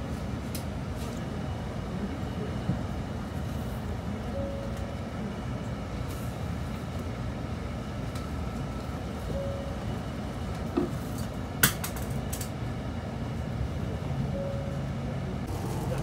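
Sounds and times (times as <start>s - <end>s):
train rumble inside carriage: 0.0s - 16.0s.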